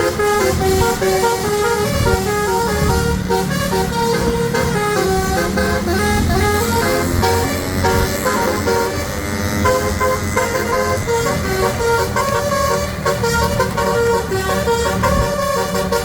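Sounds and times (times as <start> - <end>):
bus engine humming: 0.0 - 16.0
musical air horn melody: 0.0 - 16.0.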